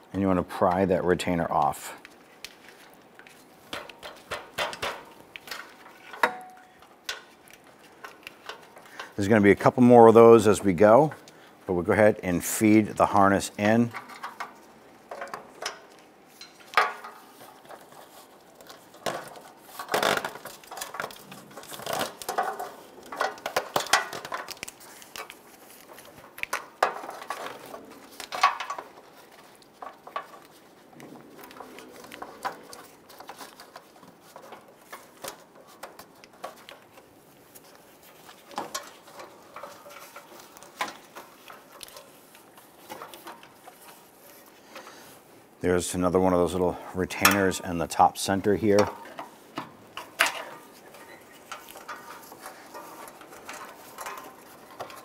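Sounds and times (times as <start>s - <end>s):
plastic wiring loom clicking and scraping: 1.5s - 45.2s, 45.8s - 55.0s.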